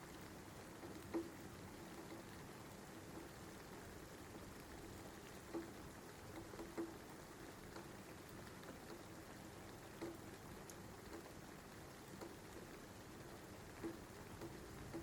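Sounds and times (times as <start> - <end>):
faint rain: 0.0 - 15.0
raindrops plinking on a surface: 0.0 - 15.0.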